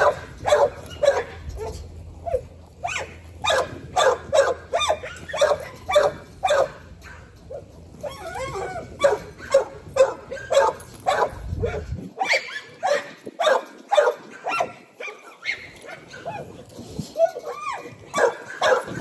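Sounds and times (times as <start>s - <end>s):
puppy whining: 0.0s - 13.1s, 13.9s - 19.0s
puppy barking: 0.0s - 19.0s.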